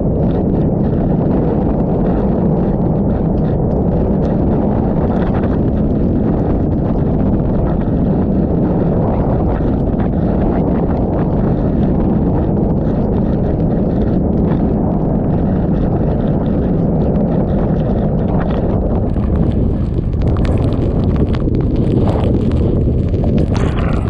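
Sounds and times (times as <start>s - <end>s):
torrential rain: 0.0s - 24.0s
wind buffeting microphone: 0.0s - 24.0s
sharp taps and crackles: 0.1s - 24.0s.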